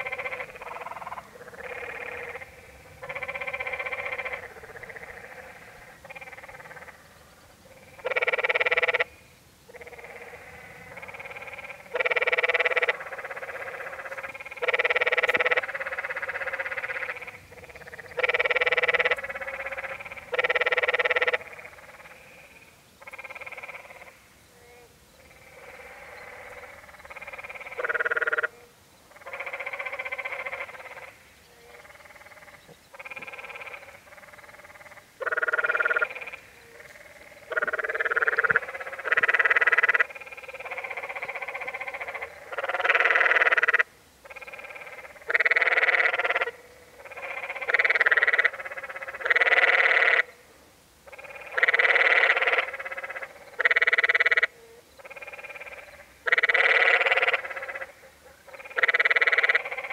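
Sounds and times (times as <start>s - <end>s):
tree frogs calling: 0.0s - 59.9s.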